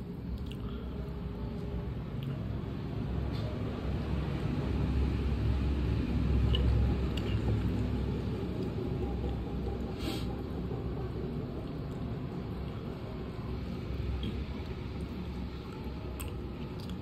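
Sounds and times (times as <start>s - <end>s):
fan airflow rumble on microphone: 0.0s - 17.0s.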